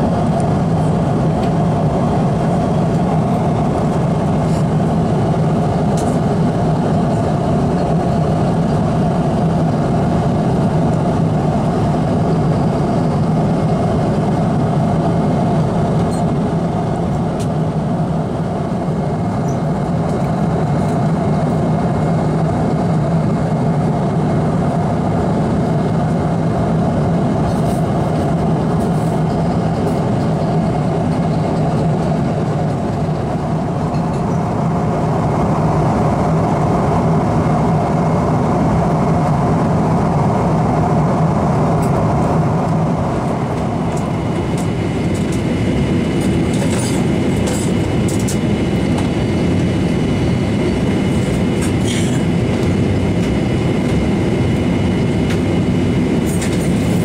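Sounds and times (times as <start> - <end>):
air rushing along fuselage: 0.0 - 57.0
jet engine drone: 0.0 - 57.0.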